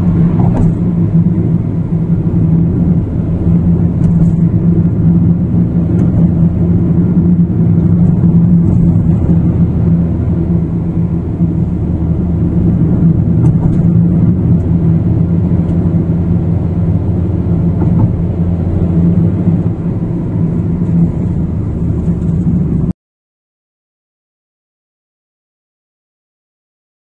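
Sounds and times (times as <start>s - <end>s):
car engine and tyre rumble: 0.0s - 22.9s.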